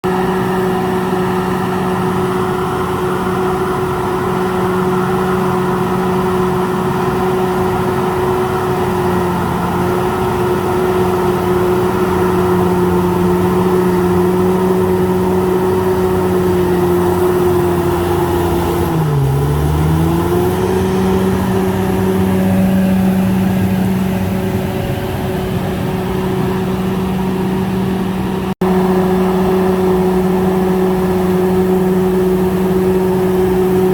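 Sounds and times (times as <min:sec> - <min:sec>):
bulldozer diesel engine droning: 0:00.0 - 0:33.9.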